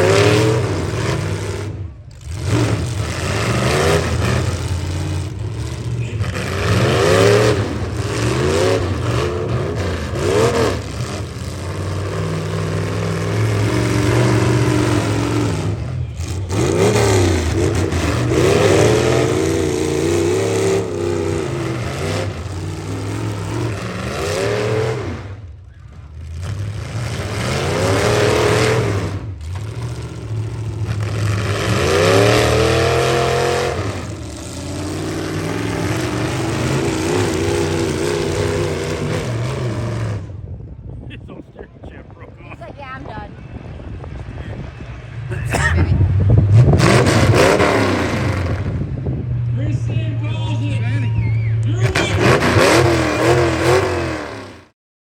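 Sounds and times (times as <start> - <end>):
pickup truck engines revving: 0.0 - 54.8.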